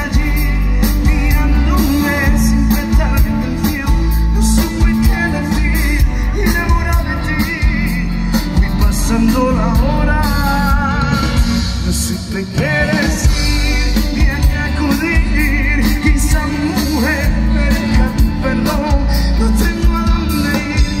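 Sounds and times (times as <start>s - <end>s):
drum kit: 0.0s - 21.0s
electric bass: 0.0s - 21.0s.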